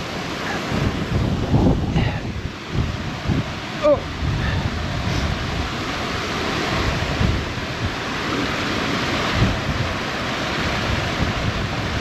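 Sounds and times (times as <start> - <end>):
waterfall rushing: 0.0 - 12.0
wind rumbling on microphone: 0.0 - 12.0.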